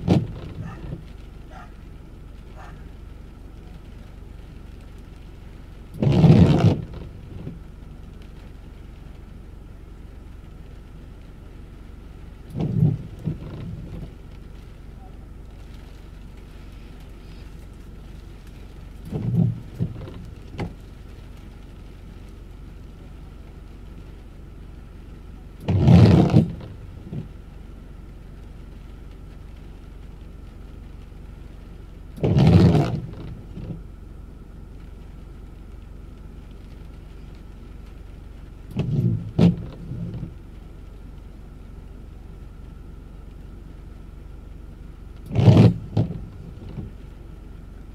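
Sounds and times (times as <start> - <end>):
low cabin hum: 0.0 - 47.9
windshield wipers sweeping wet glass: 0.0 - 47.9.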